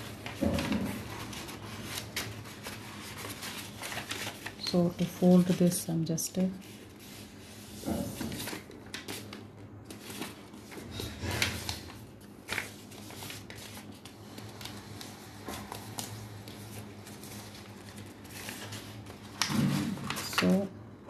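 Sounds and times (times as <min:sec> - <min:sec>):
paper crinkles: 0:00.0 - 0:05.8, 0:06.6 - 0:20.6
paper rustling and scraping: 0:00.0 - 0:20.6.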